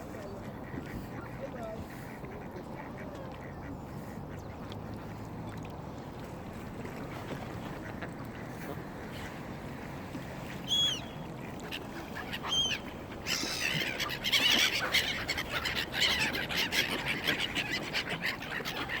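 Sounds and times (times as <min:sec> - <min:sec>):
waterbirds calling: 0:00.0 - 0:19.0.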